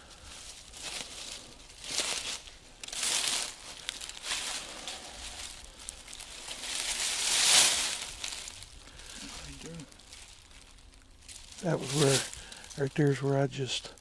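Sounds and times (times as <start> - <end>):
dry leaves crunching and rustling: 0.0 - 14.0
footsteps in leaves: 0.0 - 14.0.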